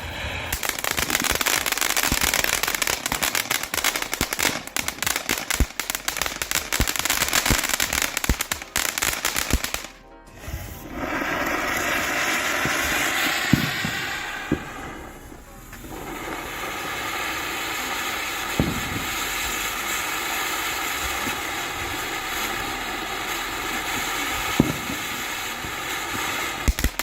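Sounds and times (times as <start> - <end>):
firework fountain hissing spray: 0.0 - 27.0
fireworks crackling and popping: 0.0 - 27.0.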